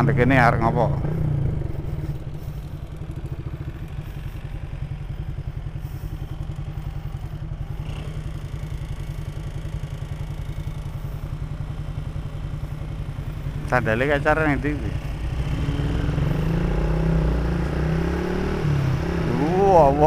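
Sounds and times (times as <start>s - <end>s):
motor scooter engine idling: 0.0s - 16.4s.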